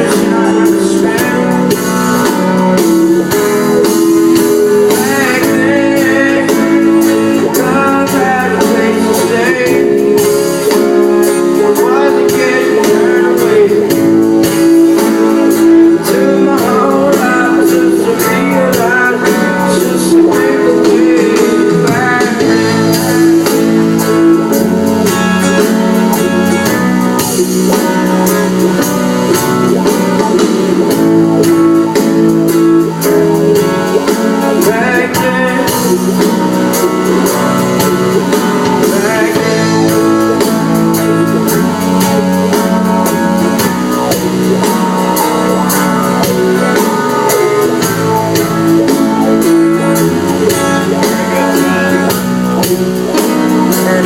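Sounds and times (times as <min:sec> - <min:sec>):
drum kit: 0:00.0 - 0:54.0
guitar: 0:00.0 - 0:54.0
person singing: 0:00.0 - 0:54.0.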